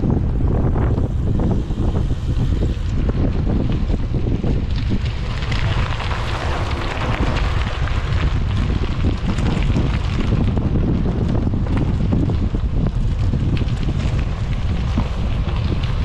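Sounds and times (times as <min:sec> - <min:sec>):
bicycle tyres crackling on gravel: 0:00.0 - 0:16.0
wind buffeting microphone: 0:00.0 - 0:16.0.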